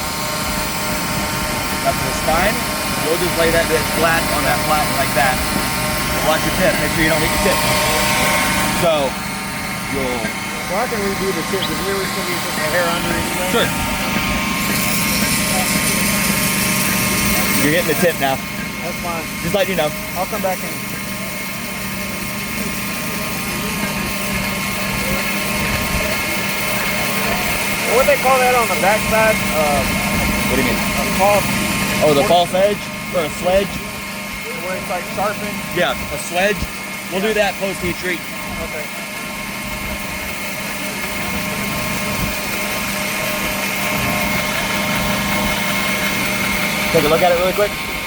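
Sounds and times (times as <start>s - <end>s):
belt grinder grinding knife blade: 0.0s - 48.0s
machine motor humming: 0.0s - 48.0s.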